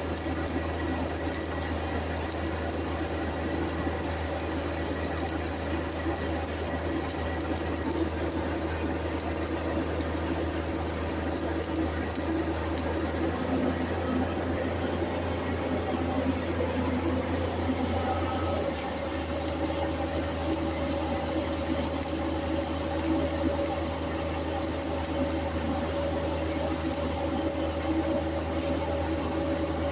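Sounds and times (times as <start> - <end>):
machine hum with low drone: 0.0 - 29.9.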